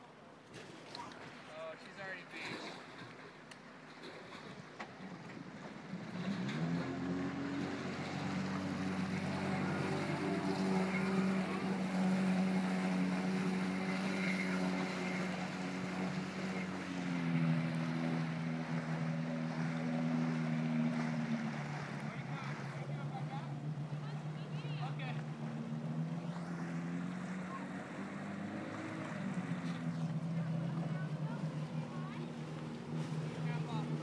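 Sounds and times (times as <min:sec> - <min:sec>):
jet ski engine: 0:00.0 - 0:34.0.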